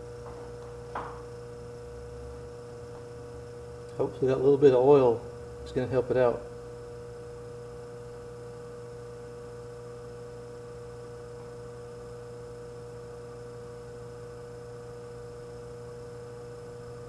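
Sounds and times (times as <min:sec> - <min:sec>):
refrigerator compressor humming: 0:00.0 - 0:17.0.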